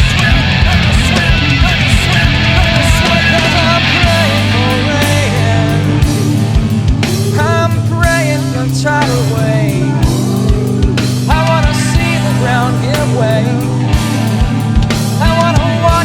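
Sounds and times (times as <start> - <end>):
heavy rock music: 0.0 - 16.0
person singing: 0.0 - 16.0.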